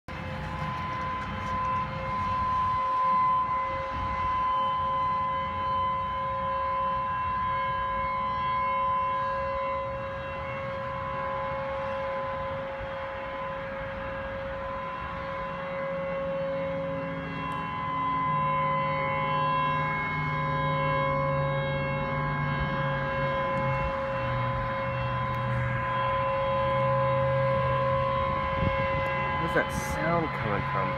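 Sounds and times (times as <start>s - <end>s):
steady horn-like drone: 0.1s - 30.9s.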